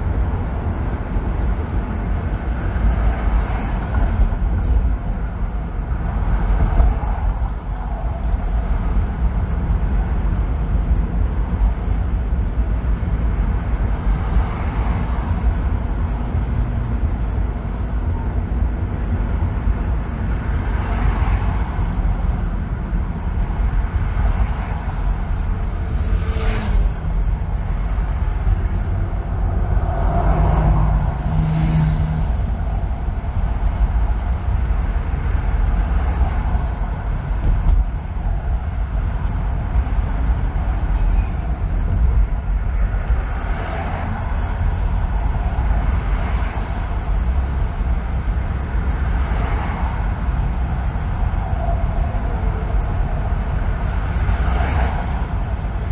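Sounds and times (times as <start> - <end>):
car road noise on freeway: 0.0 - 55.9.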